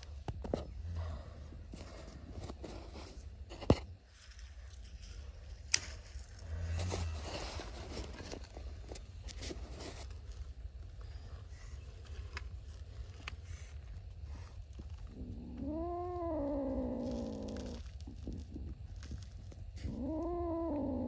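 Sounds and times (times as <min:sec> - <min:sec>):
low steady hum: 0:00.0 - 0:21.0
rustling and scraping: 0:00.0 - 0:21.0.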